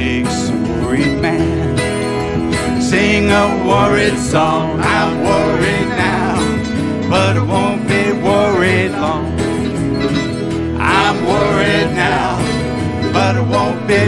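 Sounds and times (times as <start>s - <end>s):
man singing: 0.0s - 9.8s, 10.7s - 14.0s
mandolin: 0.0s - 14.0s
strummed acoustic guitar: 0.0s - 14.0s.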